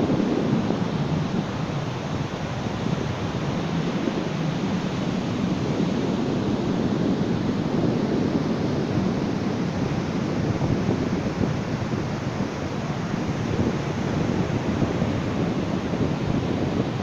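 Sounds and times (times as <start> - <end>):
ocean surf washing on a beach: 0.0 - 17.0.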